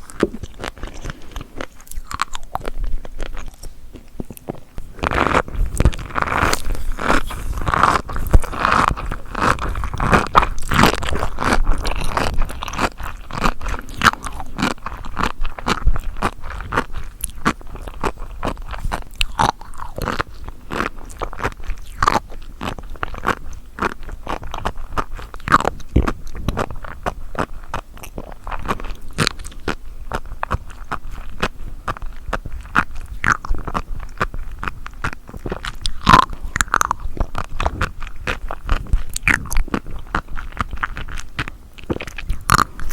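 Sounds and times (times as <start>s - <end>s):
chewing with wet crunches: 0.0s - 42.9s.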